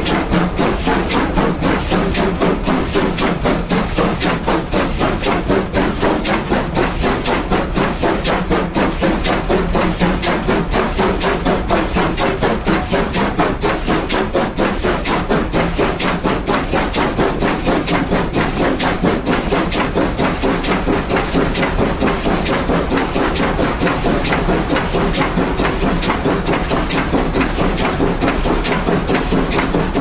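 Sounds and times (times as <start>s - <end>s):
steam locomotive exhaust beats: 0.0s - 30.0s.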